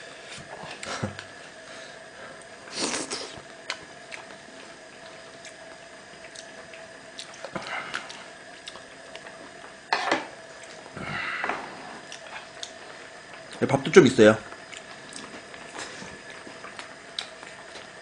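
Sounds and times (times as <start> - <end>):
faint burner hum: 0.0 - 18.0
close eating sounds: 0.2 - 18.0.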